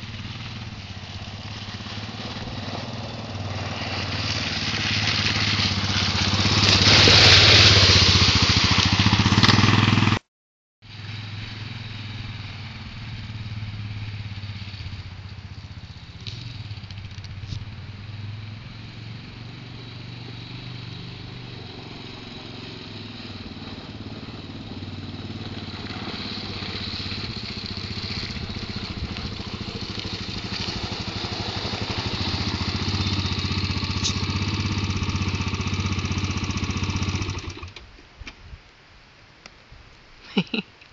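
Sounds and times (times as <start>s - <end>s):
quad bike engine passing: 0.0s - 10.2s, 10.9s - 37.8s.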